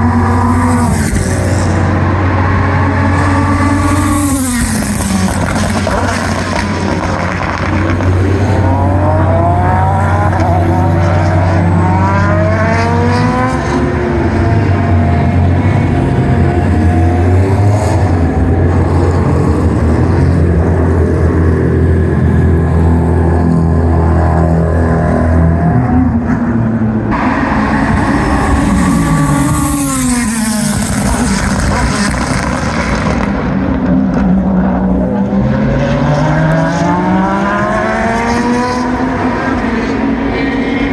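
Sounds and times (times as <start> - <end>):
race car engine accelerating: 0.0 - 40.9
steady low drone: 0.0 - 40.9.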